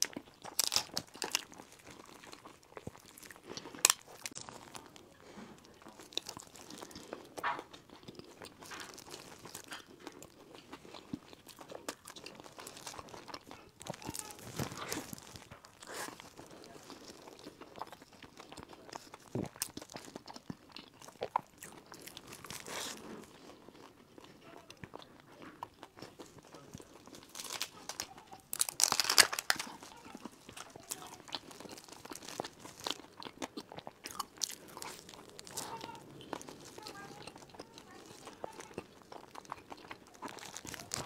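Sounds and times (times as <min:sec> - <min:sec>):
chewing with crisp crunches: 0:00.0 - 0:41.0.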